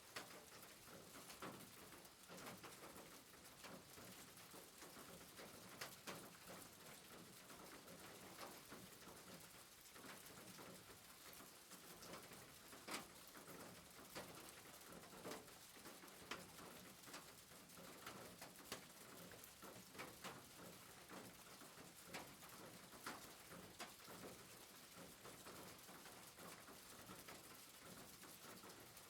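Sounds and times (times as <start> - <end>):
soft rain hiss: 0.0 - 29.0.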